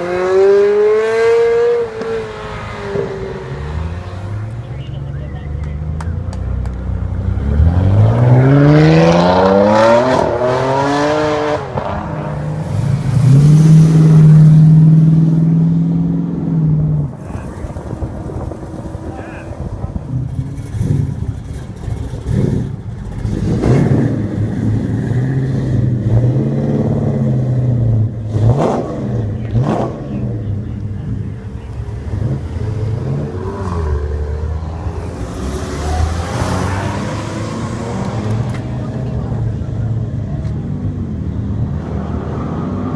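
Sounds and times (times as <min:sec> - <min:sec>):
car engine accelerating and revving: 0:00.0 - 0:42.9.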